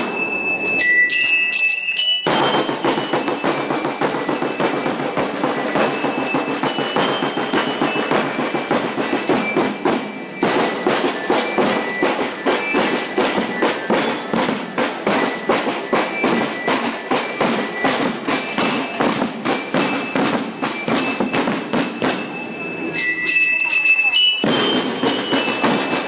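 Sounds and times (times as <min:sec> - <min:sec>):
marching band drums: 0:00.0 - 0:01.5, 0:02.3 - 0:23.2, 0:24.1 - 0:26.0
high ringing tones: 0:00.0 - 0:26.0.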